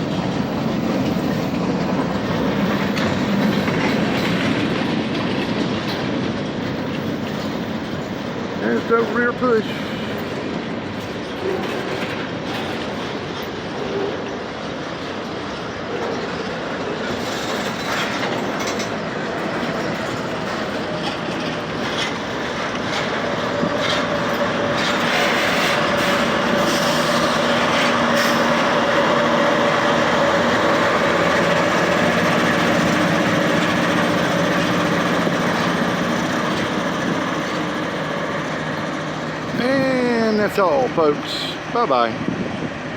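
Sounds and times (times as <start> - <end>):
train wheels clicking over rail joints: 0.0 - 41.7
diesel locomotive engine drone: 0.0 - 42.9.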